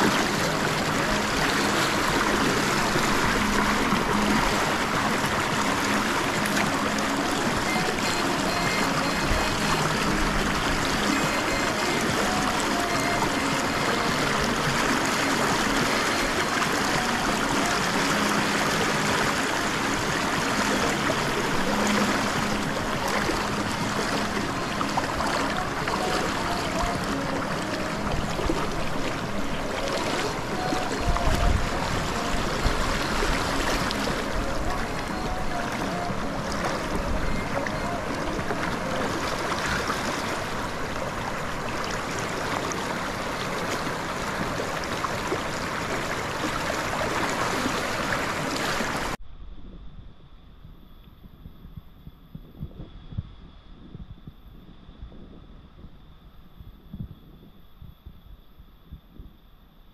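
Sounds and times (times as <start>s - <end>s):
river water rushing over stones: 0.0s - 49.2s.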